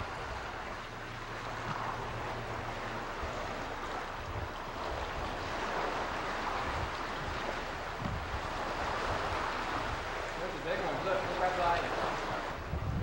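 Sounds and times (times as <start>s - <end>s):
wind on microphone: 0.0s - 0.8s, 1.4s - 10.4s, 11.6s - 13.0s
sea waves: 0.0s - 13.0s.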